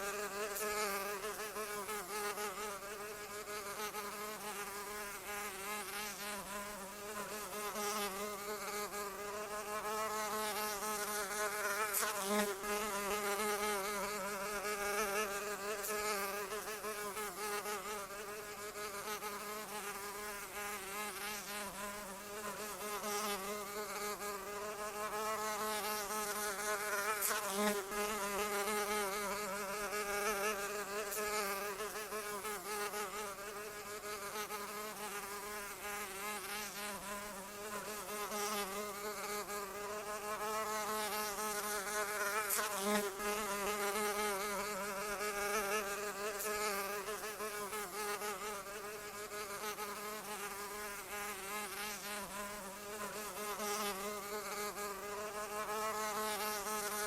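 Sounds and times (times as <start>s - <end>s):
flying insect buzzing: 0.0s - 57.0s.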